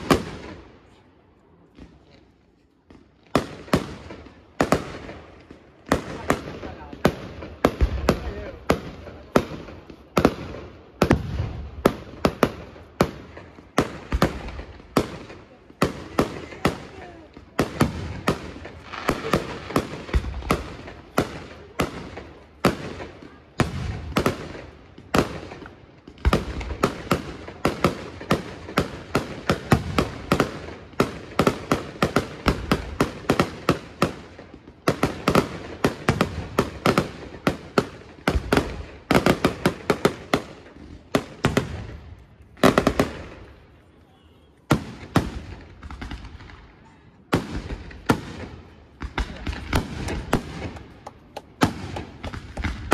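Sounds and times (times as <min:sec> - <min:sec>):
fireworks bangs: 0:00.0 - 0:52.9.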